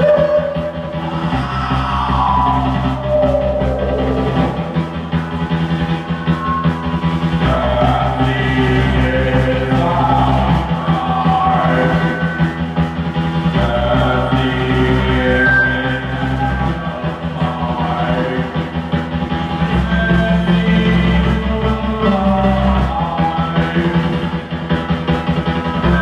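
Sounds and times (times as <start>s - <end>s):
low bass notes: 0.0s - 26.0s
wavering lead line: 0.0s - 26.0s.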